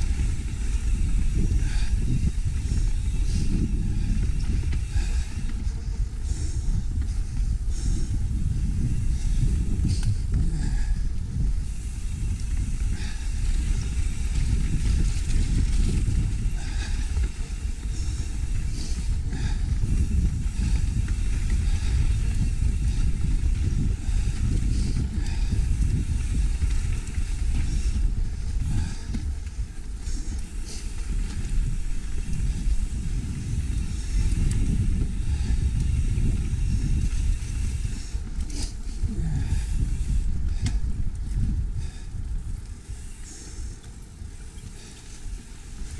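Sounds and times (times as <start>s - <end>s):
bike rattles and clicks: 0.0s - 45.9s
bike tyre noise on dirt: 0.0s - 45.9s
wind rumble on microphone: 0.0s - 45.9s.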